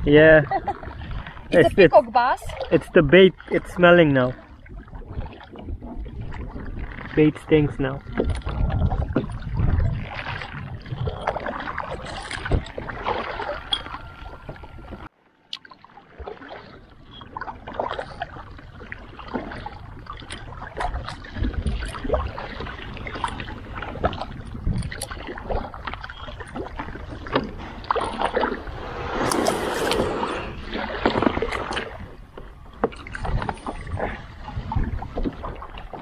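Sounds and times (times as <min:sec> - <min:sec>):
water lapping against hull: 0:00.0 - 0:36.0
kayak paddle strokes splashing: 0:00.5 - 0:07.4, 0:08.0 - 0:36.0.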